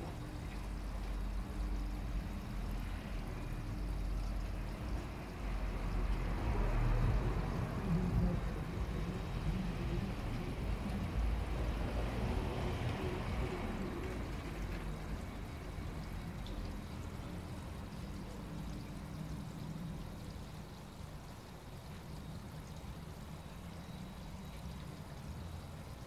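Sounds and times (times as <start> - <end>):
water trickling into pond: 0.0 - 26.0.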